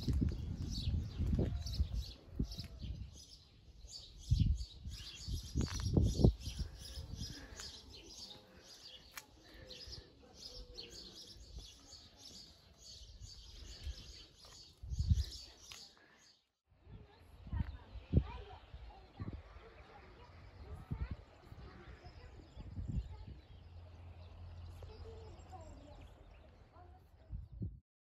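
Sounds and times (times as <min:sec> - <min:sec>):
small birds chirping: 0:00.0 - 0:16.5, 0:17.1 - 0:27.7.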